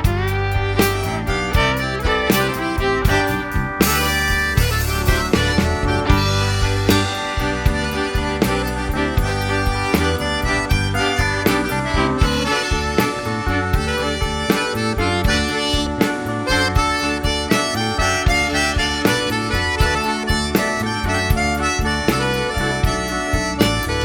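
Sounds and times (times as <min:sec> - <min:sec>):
accordion melody: 0:00.0 - 0:24.0
drums keeping a steady beat: 0:00.0 - 0:24.0.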